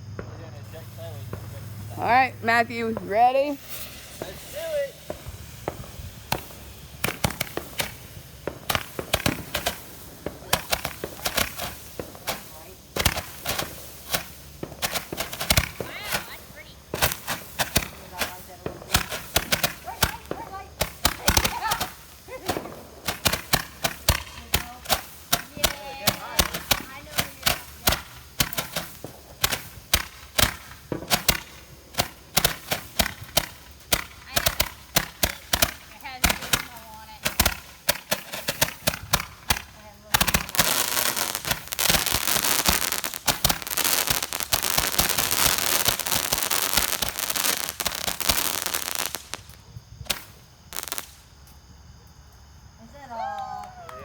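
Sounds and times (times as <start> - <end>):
fireworks bangs and cracks: 0.0 - 51.8.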